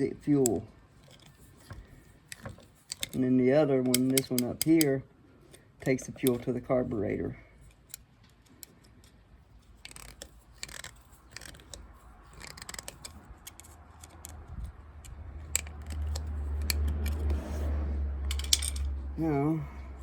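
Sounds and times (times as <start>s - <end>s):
hand tools clicking and scraping: 0.0s - 19.0s.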